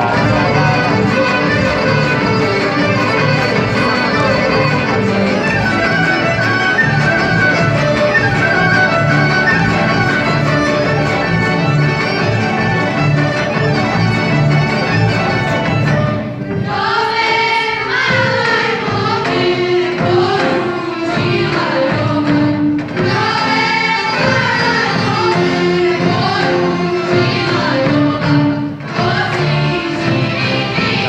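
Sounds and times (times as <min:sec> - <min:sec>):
choir singing folk song: 0:00.0 - 0:31.0
folk orchestra accompaniment: 0:00.0 - 0:31.0.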